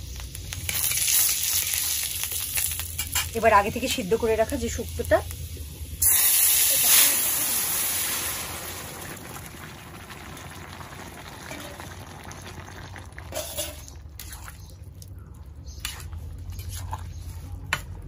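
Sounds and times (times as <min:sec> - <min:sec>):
liquid sizzling in hot oil: 0:00.0 - 0:14.8
bubbling simmer: 0:01.3 - 0:17.7.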